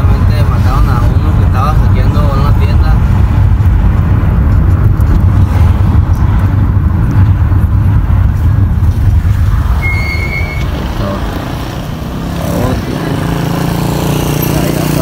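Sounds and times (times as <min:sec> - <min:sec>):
wind and road noise rumble: 0:00.0 - 0:15.0.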